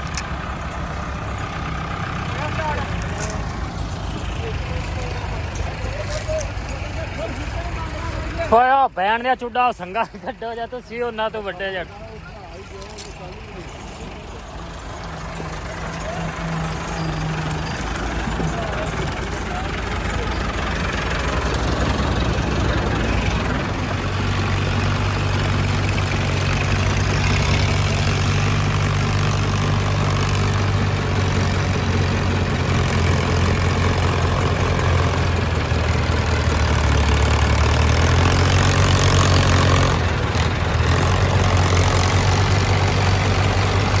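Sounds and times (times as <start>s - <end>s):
tractor engine throbbing: 0.0s - 44.0s.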